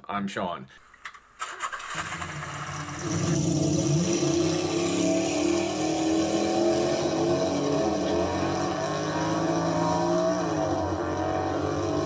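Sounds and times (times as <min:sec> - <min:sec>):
car engine running: 0:01.4 - 0:12.0.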